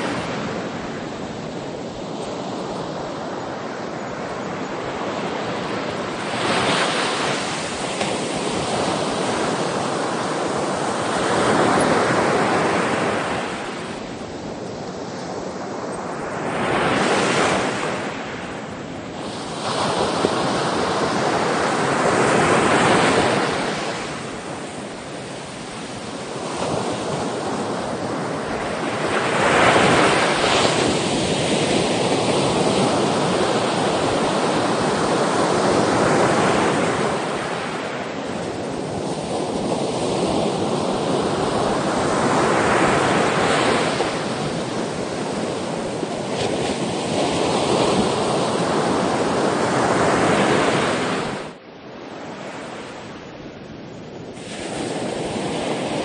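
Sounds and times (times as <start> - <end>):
sea waves breaking on shore: 0.0 - 53.4, 54.2 - 56.0.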